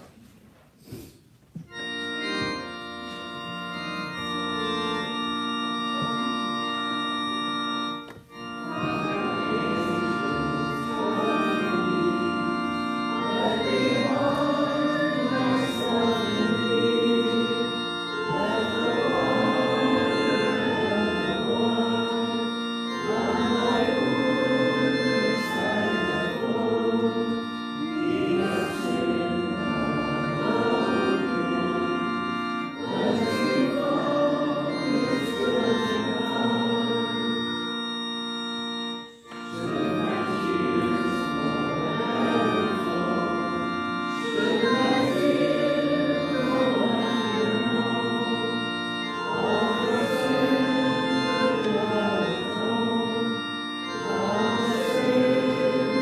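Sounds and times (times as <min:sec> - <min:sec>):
pipe organ playing hymn: 0:00.0 - 0:56.0
voices singing: 0:07.9 - 0:38.0, 0:39.3 - 0:56.0.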